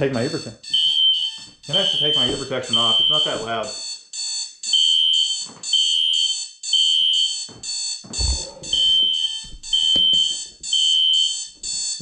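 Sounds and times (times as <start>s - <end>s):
alarm clock beeping: 0.0s - 12.0s
fire alarm horn blasts: 0.0s - 12.0s.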